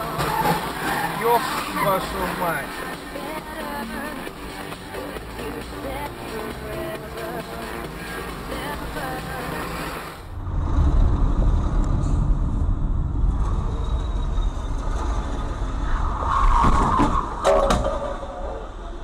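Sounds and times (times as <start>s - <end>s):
car engine and road rumble: 0.0s - 16.4s.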